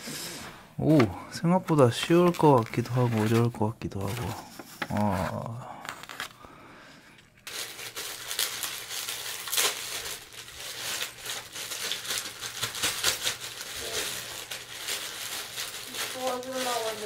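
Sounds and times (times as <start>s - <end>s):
plastic bag crinkling: 1.6s - 6.4s, 7.4s - 17.0s.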